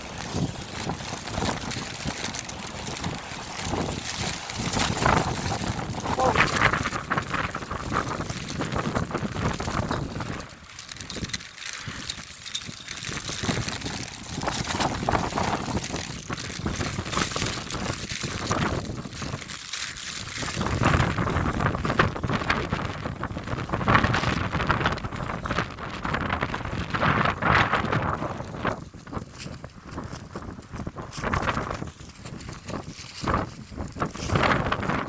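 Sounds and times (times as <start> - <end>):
wind gusting across microphone: 0.0 - 35.0.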